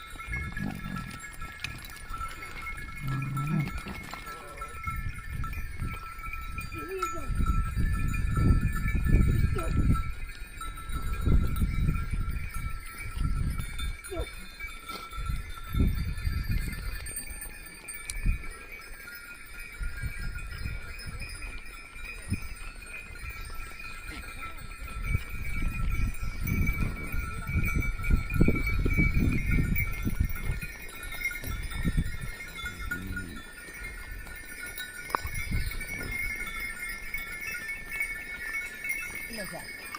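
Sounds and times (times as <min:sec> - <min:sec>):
animal bells ringing: 0:00.0 - 0:39.9.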